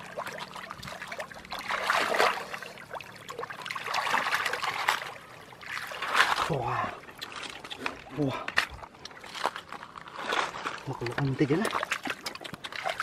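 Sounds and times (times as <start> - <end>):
hands splashing in muddy water: 0.0 - 9.6, 10.2 - 13.0.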